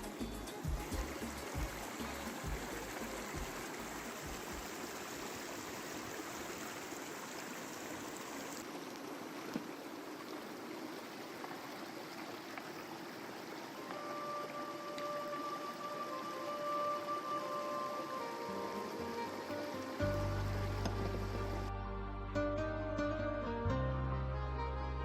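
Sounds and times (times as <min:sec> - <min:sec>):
stream running water: 0:00.0 - 0:21.8.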